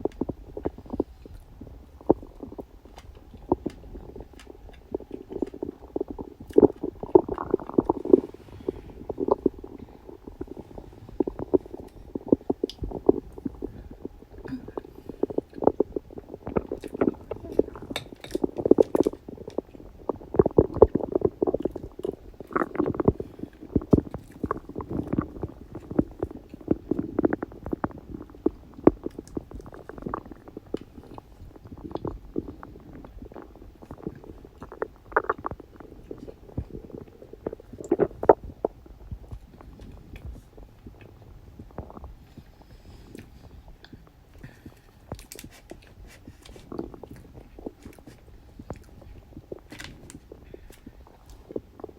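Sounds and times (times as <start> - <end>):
stomach growling and gurgling: 0.0 - 51.9.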